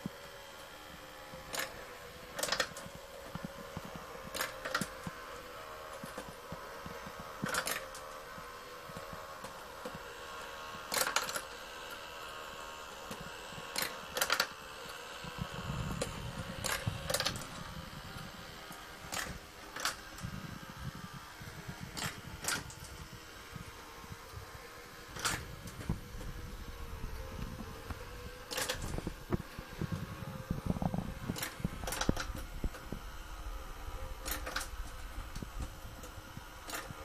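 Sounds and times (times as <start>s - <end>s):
motor whirring hum: 0.0s - 37.0s.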